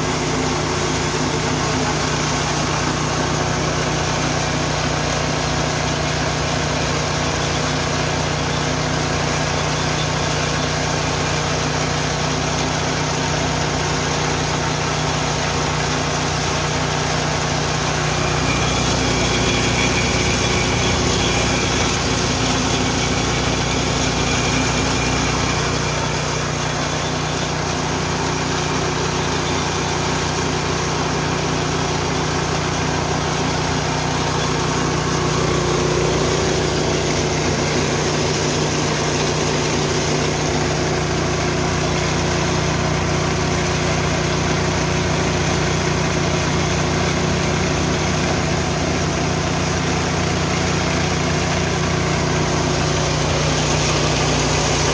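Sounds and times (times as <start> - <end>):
milling machine running: 0.0 - 54.9.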